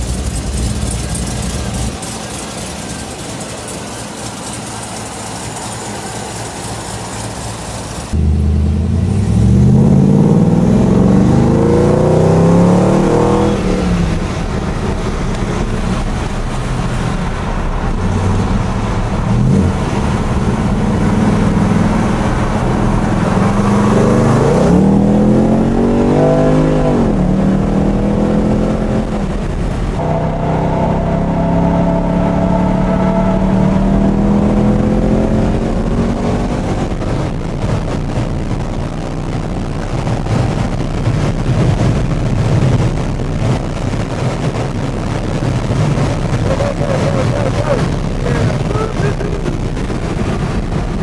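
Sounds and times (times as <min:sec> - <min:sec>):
car engine revving: 0:00.0 - 0:51.0
road noise: 0:00.0 - 0:51.0.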